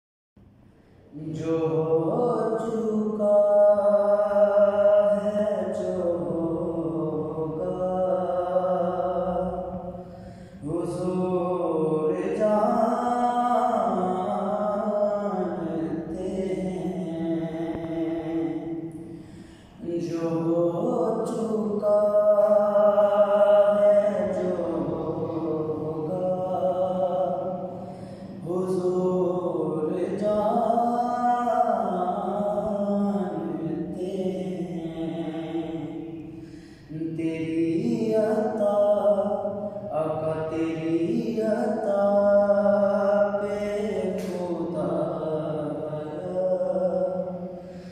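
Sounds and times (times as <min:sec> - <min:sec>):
man singing unaccompanied: 0:01.0 - 0:47.9.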